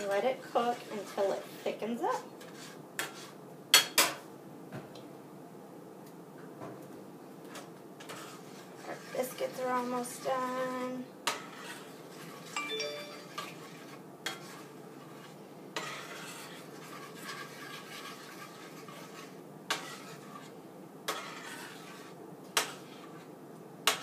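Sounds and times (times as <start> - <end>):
utensil scraping through gravy: 0.0 - 3.4, 7.4 - 24.0.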